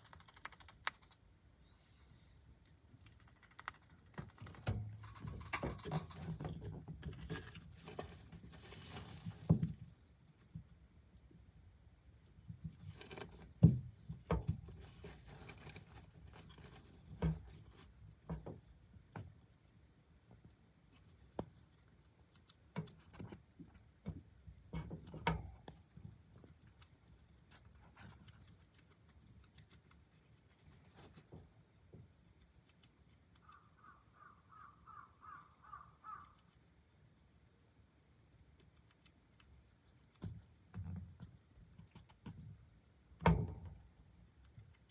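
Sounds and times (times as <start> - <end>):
hamster gnawing on bone: 0.0 - 1.3, 3.0 - 34.5, 38.2 - 44.9.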